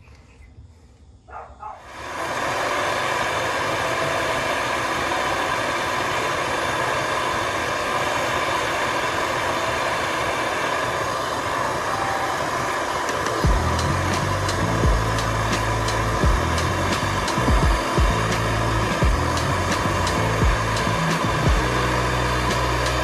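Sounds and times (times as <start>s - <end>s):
brazing torch flame roaring: 1.8s - 23.0s.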